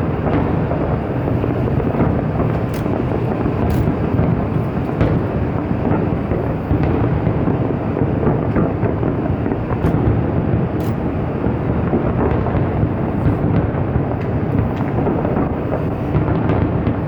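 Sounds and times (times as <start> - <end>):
fireworks shells bursting: 0.0 - 17.0.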